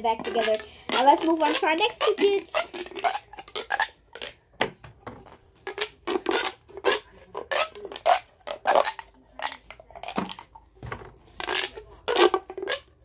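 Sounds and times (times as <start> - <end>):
plastic pop tubes crackling: 0.0 - 13.0.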